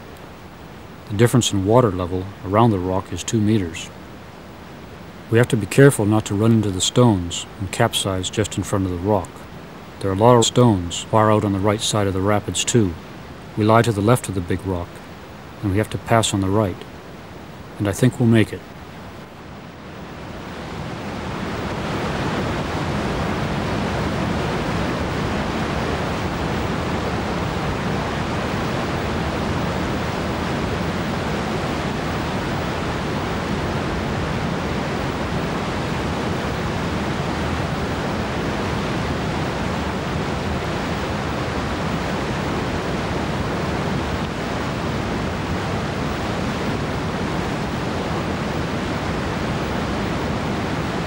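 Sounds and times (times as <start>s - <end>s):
whitewater rapid rushing: 0.0s - 51.0s.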